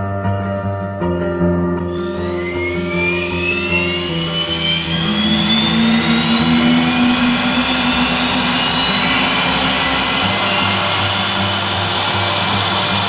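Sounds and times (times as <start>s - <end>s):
jet engine whine rising: 1.8s - 13.0s
constant rush: 1.9s - 13.0s
low hum: 1.9s - 13.0s.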